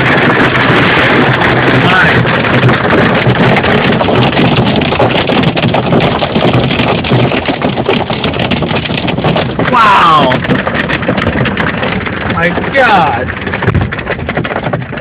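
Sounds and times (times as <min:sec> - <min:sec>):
hail pelting vehicle roof: 0:00.0 - 0:15.0.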